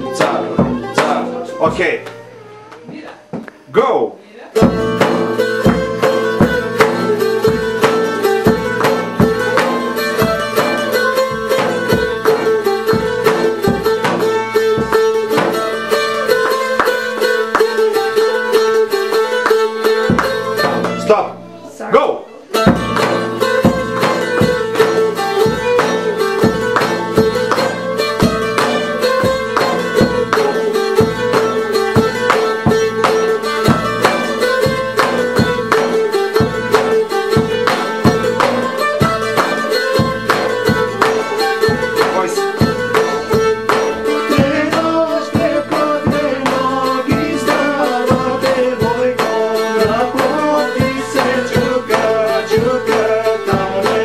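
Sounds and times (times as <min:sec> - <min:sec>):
lute strummed and plucked: 0:00.0 - 0:03.7, 0:04.6 - 0:54.0.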